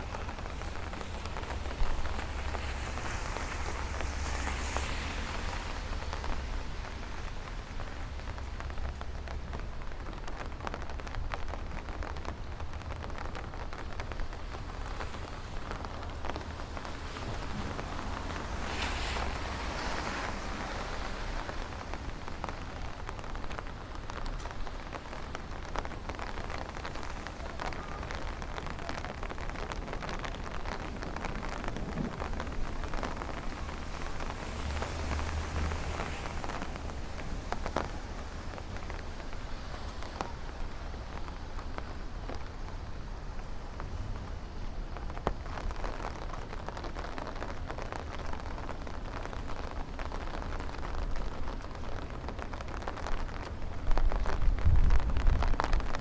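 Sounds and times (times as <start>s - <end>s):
rain drops ticking: 0.0s - 56.0s
rain falling on street: 0.0s - 56.0s.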